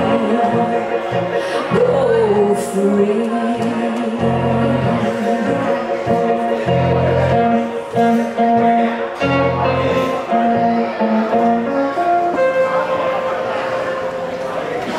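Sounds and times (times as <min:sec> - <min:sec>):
electric guitar: 0:00.0 - 0:14.9
keyboard: 0:00.0 - 0:14.9.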